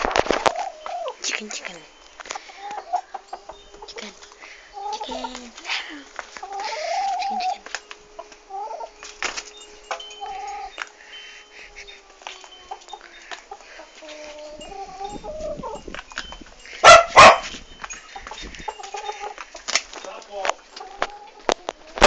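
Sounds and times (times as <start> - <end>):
chicken clucking: 0.0 - 22.0.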